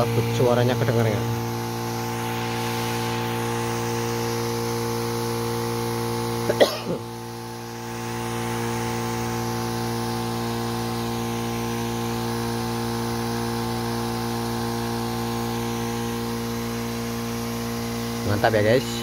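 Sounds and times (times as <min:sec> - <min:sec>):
sprayer pump humming: 0:00.0 - 0:19.0
nozzle spraying hiss: 0:00.1 - 0:16.5.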